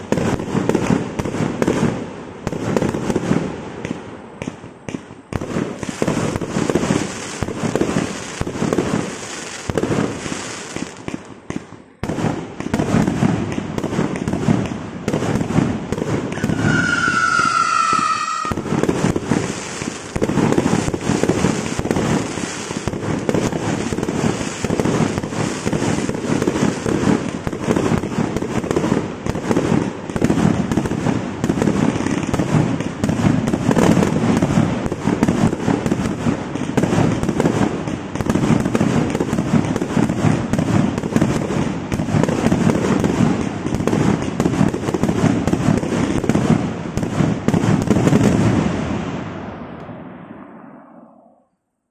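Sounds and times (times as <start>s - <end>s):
firework barrage: 0.0s - 51.6s.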